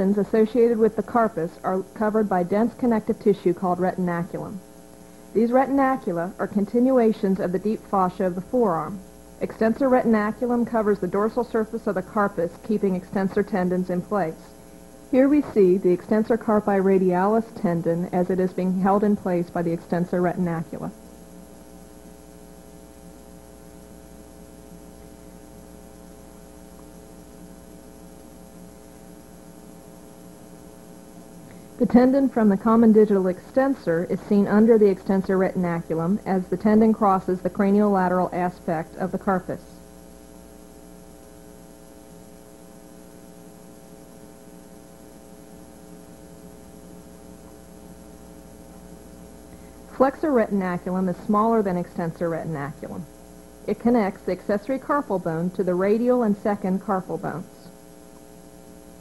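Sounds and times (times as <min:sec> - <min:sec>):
faint high whine: 0:00.0 - 0:59.0
faint hiss: 0:00.0 - 0:59.0
steady electrical hum: 0:00.0 - 0:59.0.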